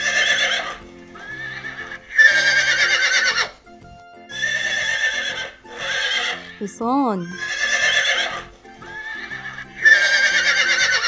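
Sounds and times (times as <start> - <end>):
horse neighing: 0.0 - 3.5, 4.4 - 6.6, 7.3 - 11.0
background music: 0.0 - 11.0.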